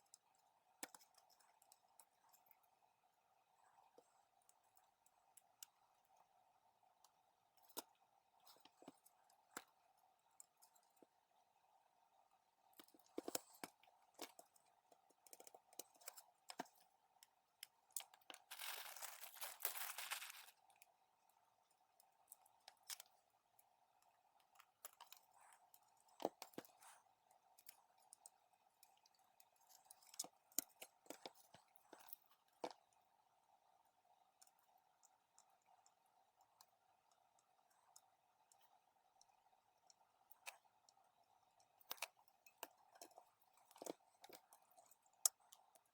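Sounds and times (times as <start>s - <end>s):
faint steady hum: 0.0s - 45.9s.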